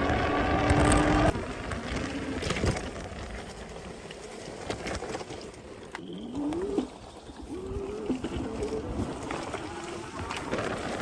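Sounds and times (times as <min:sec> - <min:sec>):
wind noise: 0:00.0 - 0:05.4, 0:06.1 - 0:11.0.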